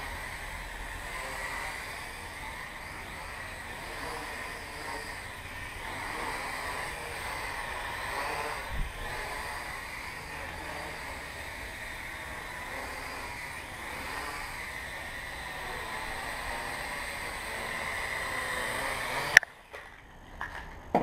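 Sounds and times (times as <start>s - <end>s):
quadcopter propellers buzzing: 0.0s - 20.5s.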